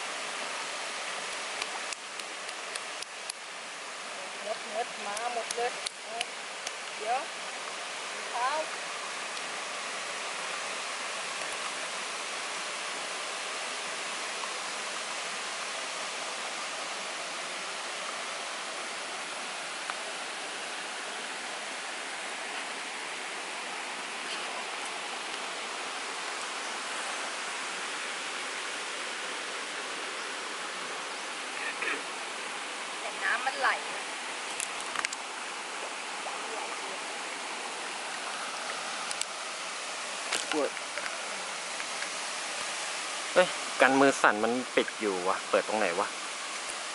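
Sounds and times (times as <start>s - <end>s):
waterfall stream rushing: 0.0s - 46.9s.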